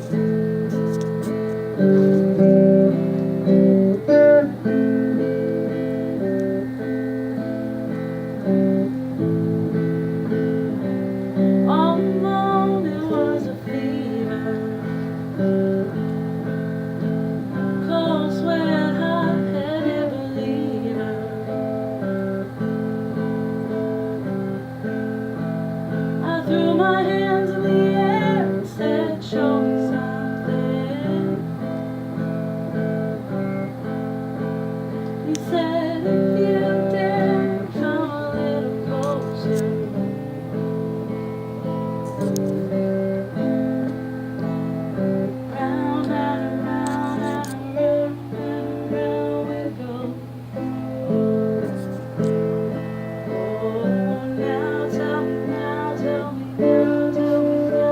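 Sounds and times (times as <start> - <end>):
acoustic guitar playing: 0.0 - 57.9.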